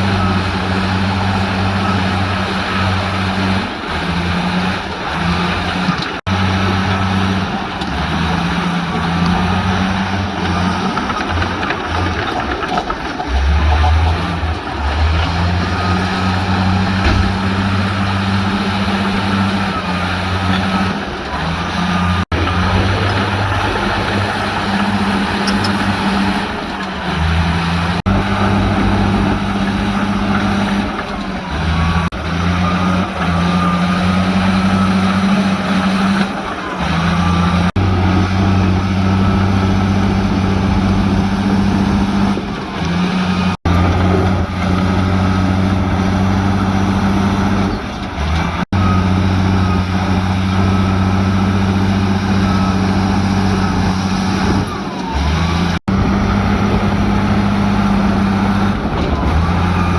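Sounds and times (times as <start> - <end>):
construction machine diesel engines: 0.0 - 59.9.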